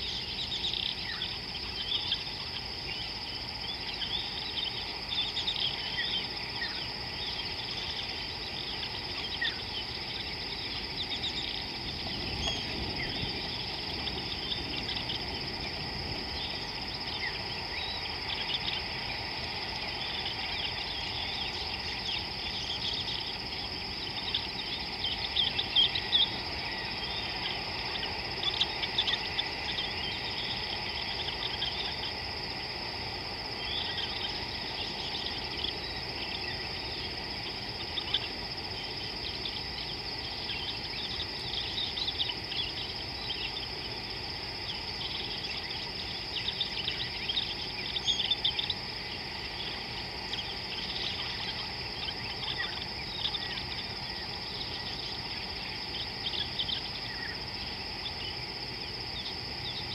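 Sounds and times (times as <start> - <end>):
high insect trill: 0.0 - 59.9.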